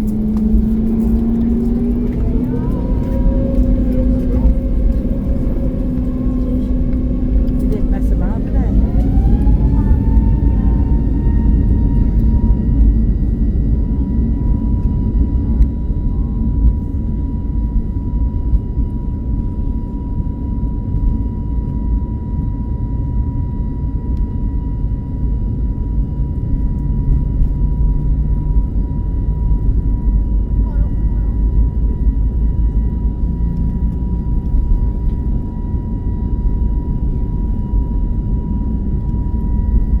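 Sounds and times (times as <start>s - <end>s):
jet engine high whine: 0.0s - 40.0s
jet engine rumble: 0.0s - 40.0s.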